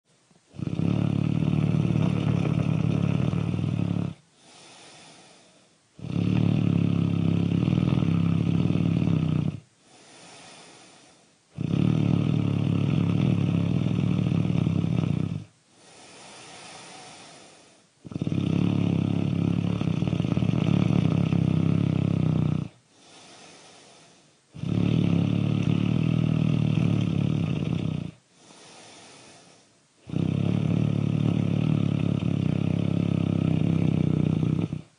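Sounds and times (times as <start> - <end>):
quiet breaths: 0.2 - 34.9
loud snoring: 0.5 - 34.9.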